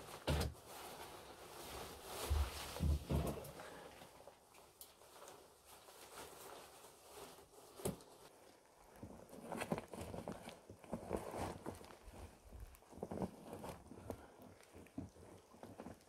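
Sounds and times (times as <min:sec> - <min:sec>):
fabric bag rustling: 0:00.0 - 0:16.0.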